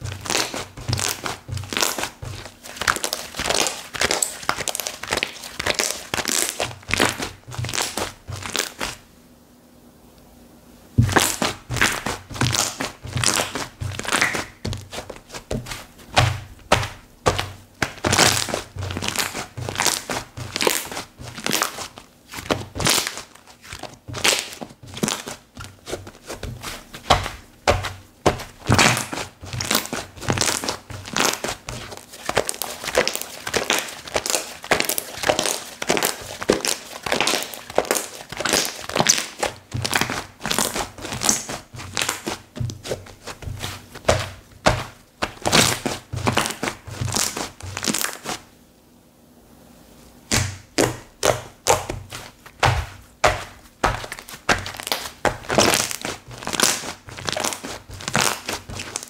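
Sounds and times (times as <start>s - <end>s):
slime squished by hand: 0.0s - 9.0s, 11.0s - 48.5s, 50.3s - 59.0s.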